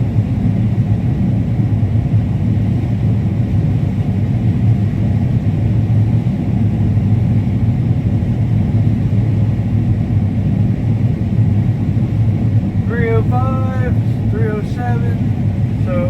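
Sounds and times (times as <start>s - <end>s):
combine harvester droning: 1.7s - 16.0s.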